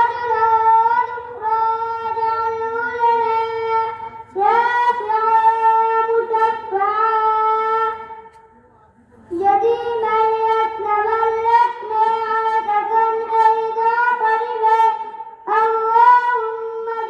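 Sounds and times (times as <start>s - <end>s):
boy chanting into a microphone: 0.0s - 17.0s.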